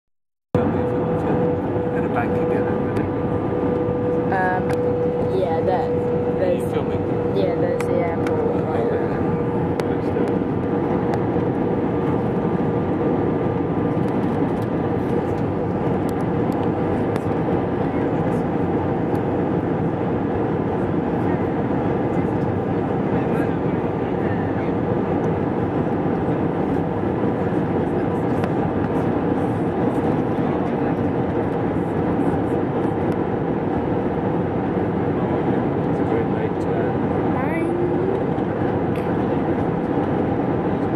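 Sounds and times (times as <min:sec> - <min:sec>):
aircraft cabin rumble: 0:00.6 - 0:40.9.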